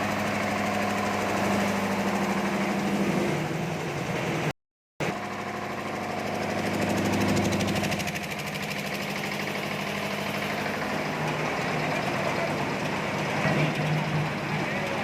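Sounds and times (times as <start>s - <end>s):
hoist engine pulsing: 0.0s - 15.0s.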